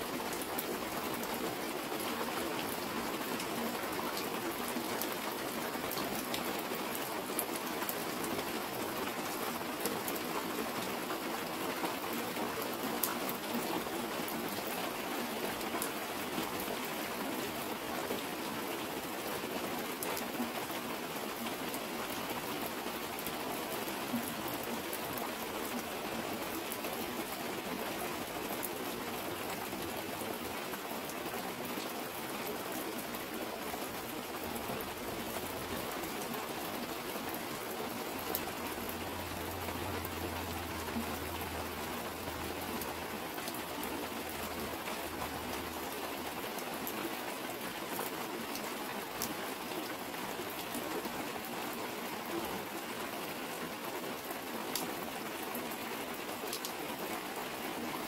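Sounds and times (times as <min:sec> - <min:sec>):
heavy rain on plastic sheet: 0:00.0 - 0:58.0.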